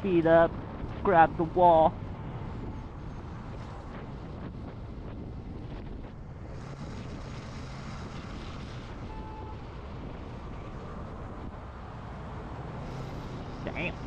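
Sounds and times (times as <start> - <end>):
road noise: 0.0 - 14.0
wind rushing over microphone: 0.0 - 14.0.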